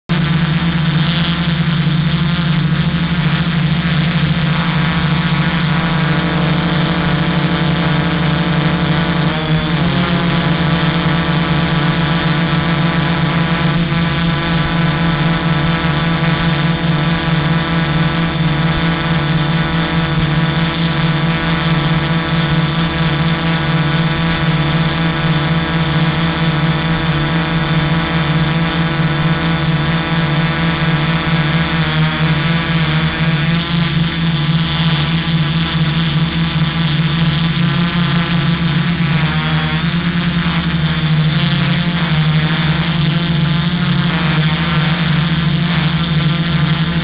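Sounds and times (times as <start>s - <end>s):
quadcopter motors and propellers: 0.1s - 47.0s.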